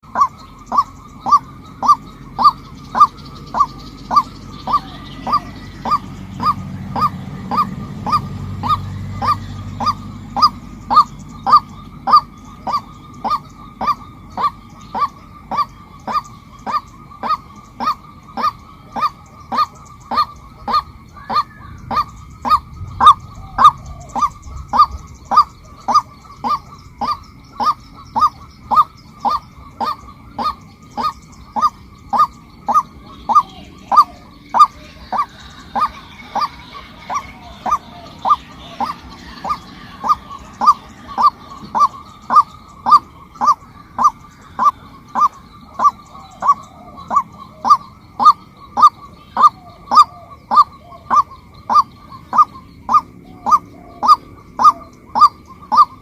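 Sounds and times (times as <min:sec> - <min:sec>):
waterhen honking call: 0:00.0 - 0:56.0.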